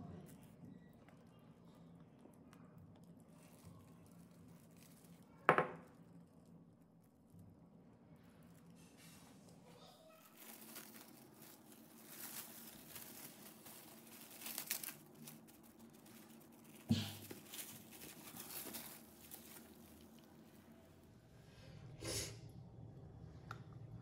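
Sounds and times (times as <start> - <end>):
cling film crinkling and rustling: 0.1 - 21.1.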